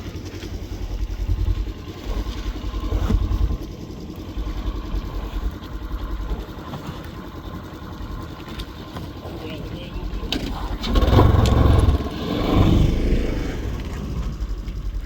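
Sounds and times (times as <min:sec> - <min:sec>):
farm vehicle engine rumbling: 0:00.0 - 0:15.0.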